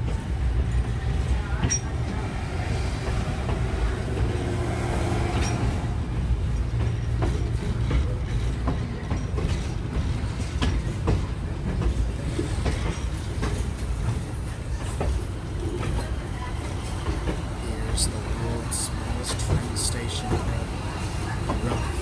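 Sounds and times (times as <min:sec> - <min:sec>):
train rumbling along track: 0:00.0 - 0:22.0
wheels clacking over rail joints: 0:00.0 - 0:22.0.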